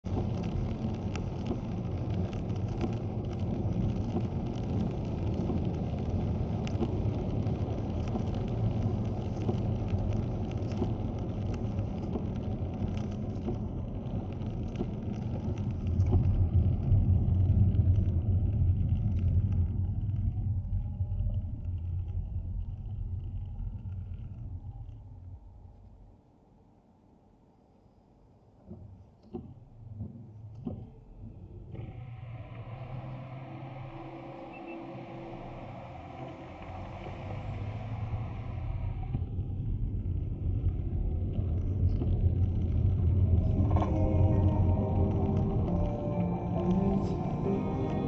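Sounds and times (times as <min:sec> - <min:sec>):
car rumble on wet road: 0:00.0 - 0:24.8, 0:31.7 - 0:48.0
rain ticking: 0:00.0 - 0:25.0, 0:31.7 - 0:48.0.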